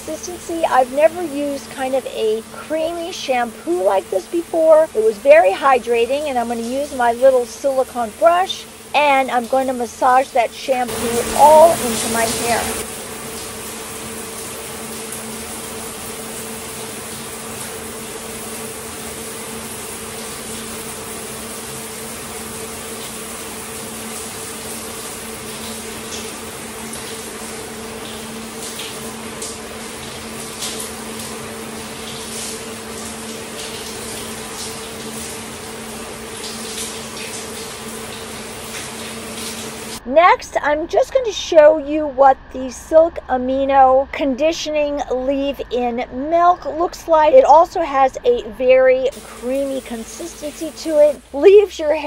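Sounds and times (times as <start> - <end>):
shower spray hissing: 0.0 - 40.0, 49.1 - 51.6
water splashes and drips: 0.0 - 40.0, 49.1 - 52.0.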